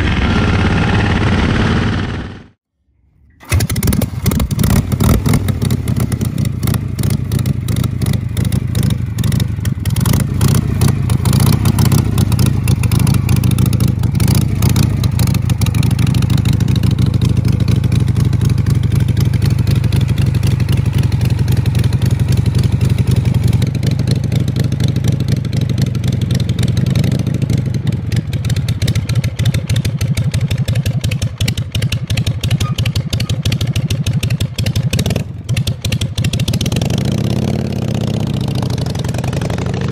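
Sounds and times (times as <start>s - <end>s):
motorcycle engines running: 3.4s - 39.9s.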